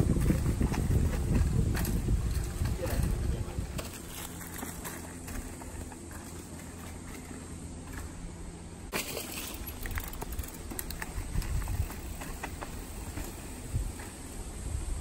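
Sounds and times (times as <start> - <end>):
mountain bike on dirt trail: 0.0 - 15.0.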